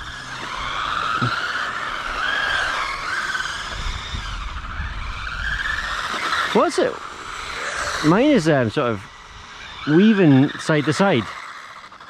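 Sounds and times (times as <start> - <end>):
rc car electric motor whine: 0.0 - 12.0.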